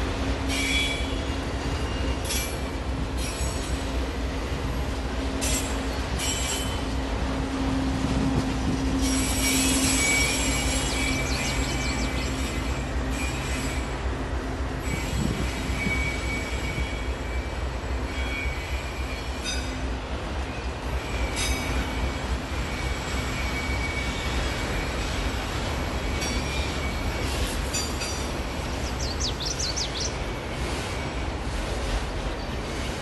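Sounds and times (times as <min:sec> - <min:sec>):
freight train rumbling past: 0:00.0 - 0:33.0
locomotive drone: 0:00.0 - 0:33.0
train wheels squealing: 0:00.4 - 0:03.9, 0:05.4 - 0:07.0, 0:08.4 - 0:33.0.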